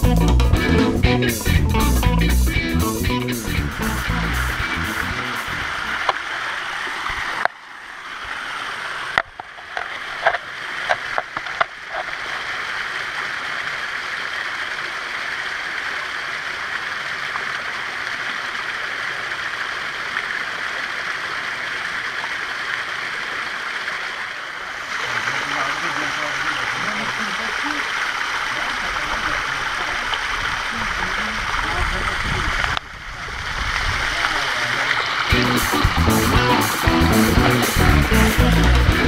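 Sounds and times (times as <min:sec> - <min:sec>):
small waterfall splashing: 0:04.0 - 0:39.0.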